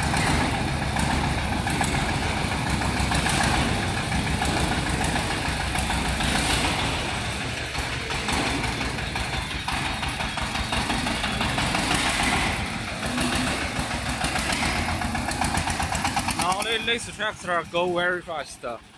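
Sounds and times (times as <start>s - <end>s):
small tractor engine chugging: 0.0s - 18.9s.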